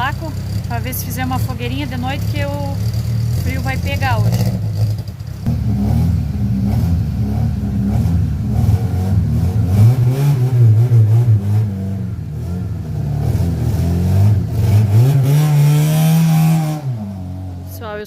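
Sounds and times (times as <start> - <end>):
vehicle engine revving: 0.0 - 17.9.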